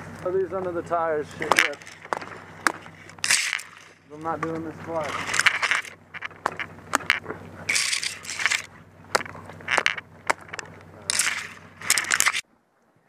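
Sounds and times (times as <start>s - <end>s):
vehicle engine idling: 0.0s - 12.4s
crunching on snow: 1.3s - 12.4s.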